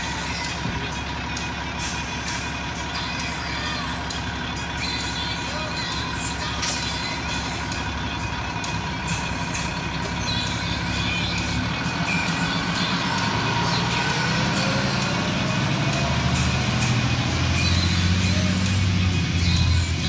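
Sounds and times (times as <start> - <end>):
fire engine driving past: 0.0 - 20.0.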